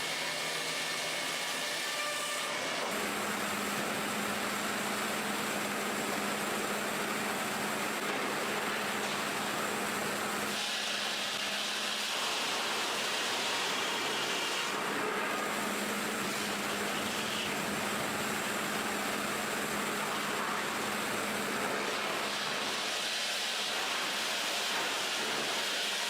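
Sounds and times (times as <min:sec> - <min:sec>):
sawmill machinery hissing: 0:00.0 - 0:26.0.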